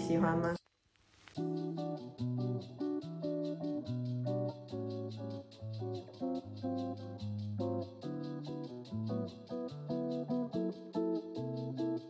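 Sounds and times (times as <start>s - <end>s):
guitar-led instrumental music: 1.4s - 12.0s
quick ticking beat: 1.4s - 12.0s.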